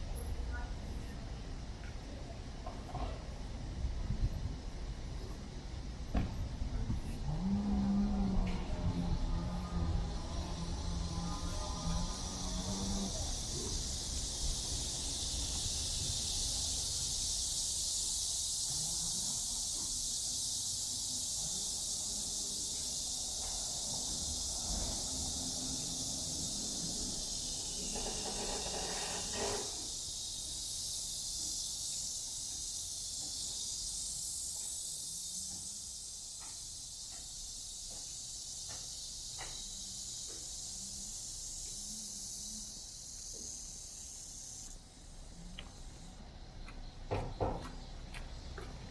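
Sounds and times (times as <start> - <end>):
cicadas buzzing: 0.0 - 48.9.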